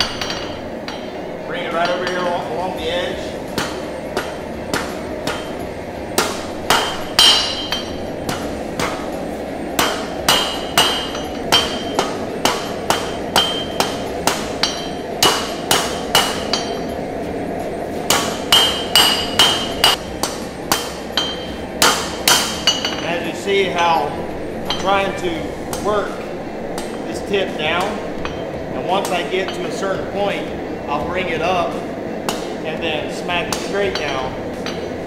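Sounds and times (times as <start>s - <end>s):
hammer striking steel on anvil: 0.0s - 2.5s, 3.5s - 9.1s, 9.7s - 17.0s, 18.0s - 29.9s, 32.2s - 32.6s, 33.4s - 35.0s
steady rushing noise: 0.0s - 35.0s.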